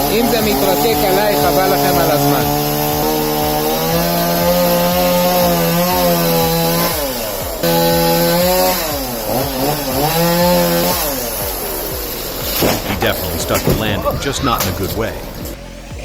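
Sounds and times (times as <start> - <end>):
chainsaw cutting: 0.0 - 16.0.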